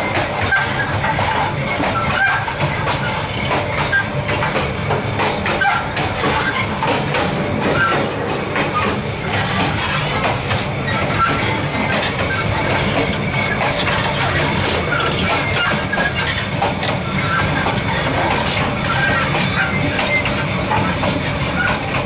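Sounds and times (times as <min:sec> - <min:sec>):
train wheels rumbling on rails: 0:00.0 - 0:22.0
wheel clicks and knocks: 0:00.0 - 0:22.0
high metallic squeaks: 0:00.4 - 0:22.0.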